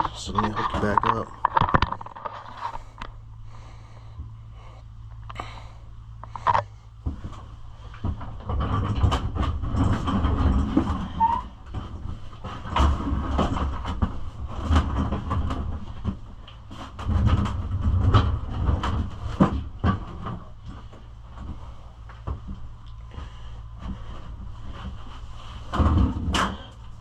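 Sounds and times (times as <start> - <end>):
handling rumble: 0.0 - 27.0.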